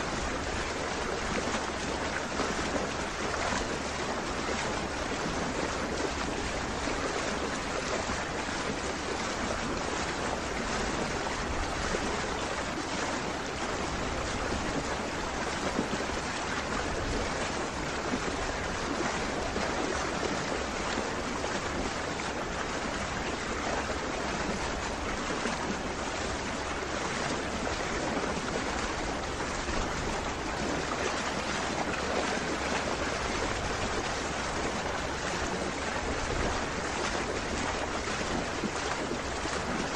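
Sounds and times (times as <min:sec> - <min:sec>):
lake water rushing: 0:00.0 - 0:39.9
wind: 0:00.0 - 0:39.9.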